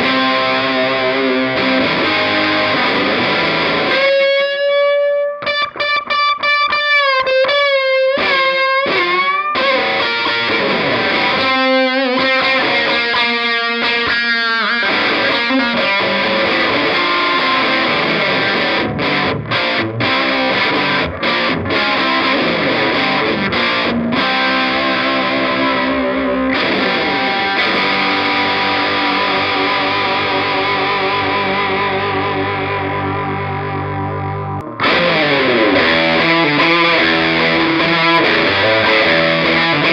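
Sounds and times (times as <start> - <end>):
overdriven electric guitar: 0.0 - 39.9.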